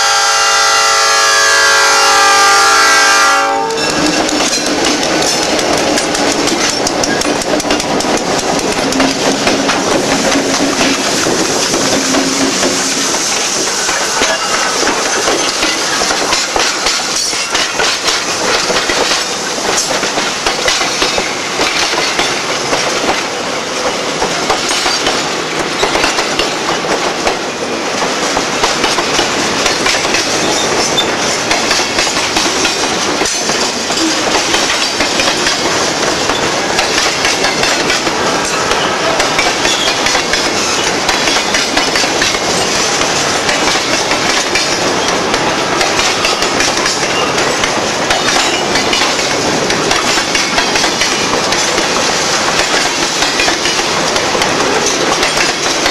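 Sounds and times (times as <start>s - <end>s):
train wheels clattering over rail joints: 3.8s - 55.9s.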